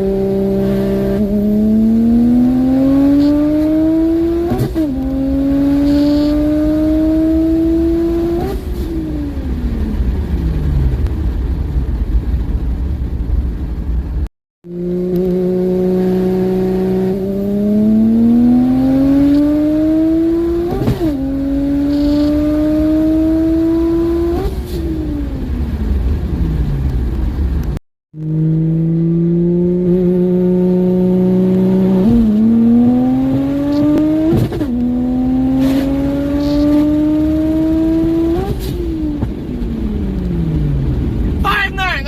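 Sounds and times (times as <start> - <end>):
car engine accelerating hard: 0.0 - 41.4.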